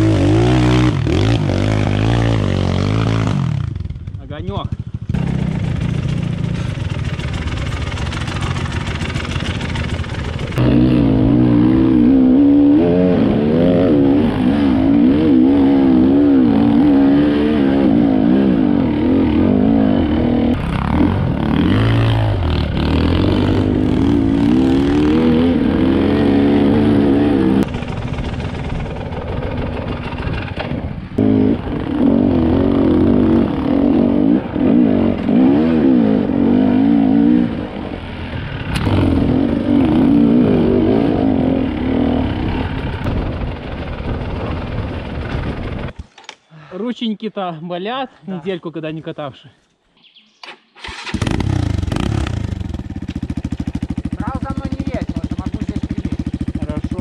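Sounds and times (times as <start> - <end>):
dirt bike engine revving: 0.0 - 46.0, 50.8 - 57.0.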